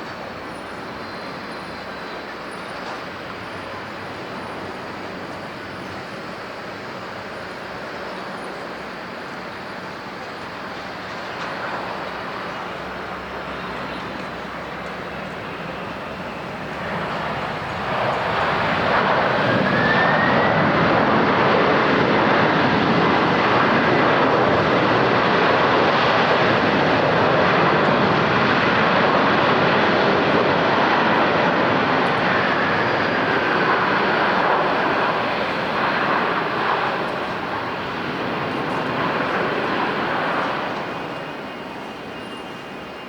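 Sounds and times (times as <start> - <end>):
jet airliner passing: 0.0 - 43.0
thin jet engine whine: 0.0 - 43.0.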